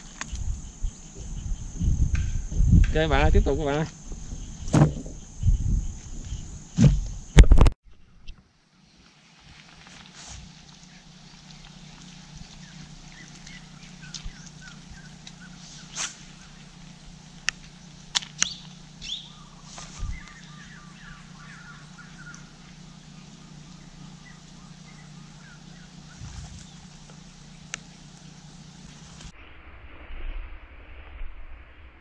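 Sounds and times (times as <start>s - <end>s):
steady low hum: 0.0s - 8.9s, 10.0s - 29.6s
birds calling: 0.0s - 9.2s, 10.5s - 29.3s.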